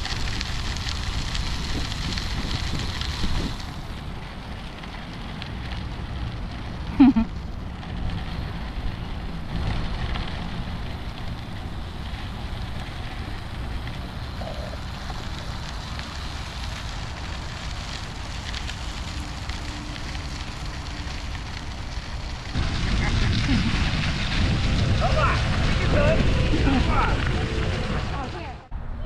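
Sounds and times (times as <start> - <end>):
wind rush on microphone: 0.0 - 29.0.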